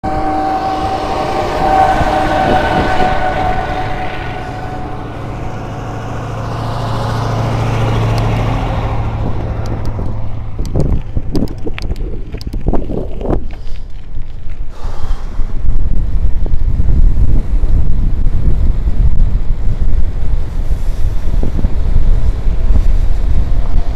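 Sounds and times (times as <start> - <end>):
vehicle passing rumble: 0.0 - 23.9
wind buffeting microphone: 0.0 - 23.9.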